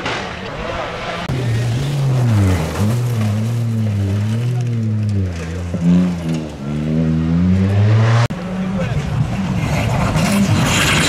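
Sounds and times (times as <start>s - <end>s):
rally car engine revving: 0.4s - 11.0s.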